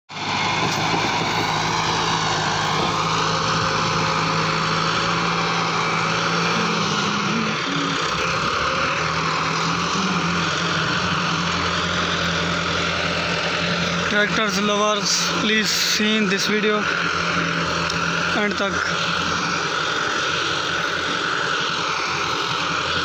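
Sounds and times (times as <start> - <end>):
tractor diesel engine under load: 0.1 - 23.0.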